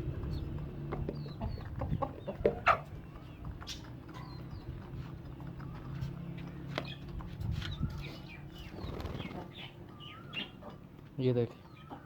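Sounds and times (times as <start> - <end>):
small birds chirping: 0.0 - 12.0
hens clucking: 0.2 - 12.0.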